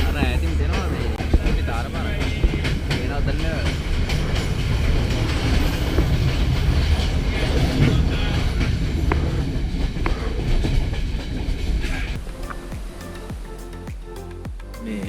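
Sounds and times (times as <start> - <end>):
train rumbling on rails: 0.0 - 13.5.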